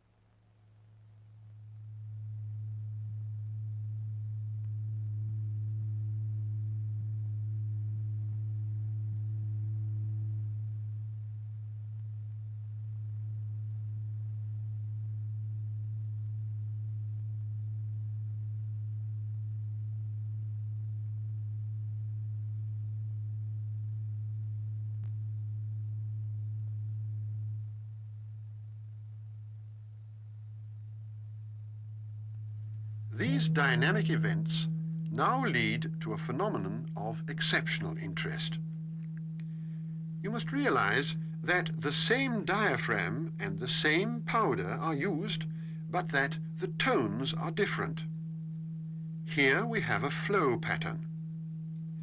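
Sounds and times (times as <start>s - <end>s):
low steady sine tone: 0.0s - 52.0s.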